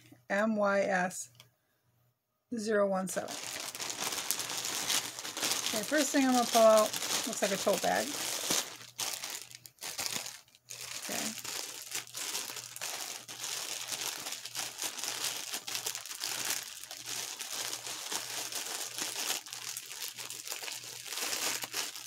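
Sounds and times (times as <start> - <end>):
plastic packaging crinkling: 3.2 - 22.0.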